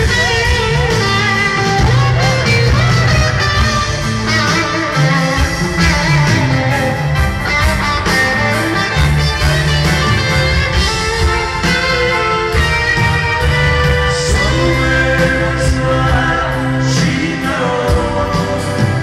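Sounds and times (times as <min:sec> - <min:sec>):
electric guitar: 0:00.0 - 0:19.0
live rock band playing: 0:00.0 - 0:19.0.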